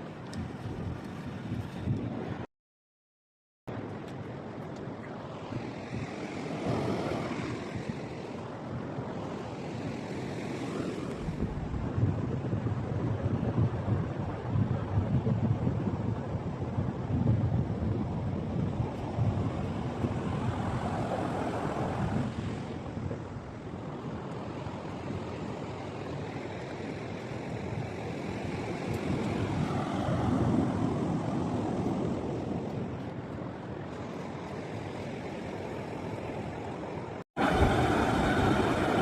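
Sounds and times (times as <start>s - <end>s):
wind on microphone: 0.0s - 2.5s, 3.7s - 39.0s
ocean surf on beach: 3.7s - 39.0s.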